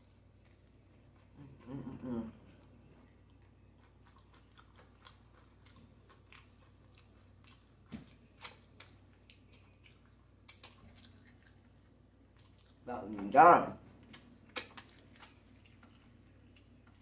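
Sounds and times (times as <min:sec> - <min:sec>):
person chewing with mouth closed: 0:00.3 - 0:12.8, 0:14.0 - 0:17.0.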